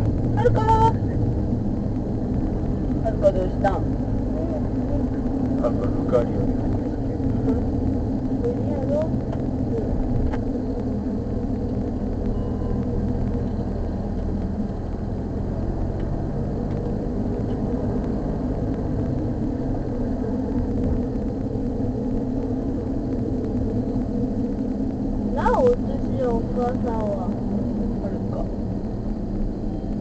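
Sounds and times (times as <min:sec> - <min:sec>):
minivan engine and tyre rumble: 0:00.0 - 0:30.0.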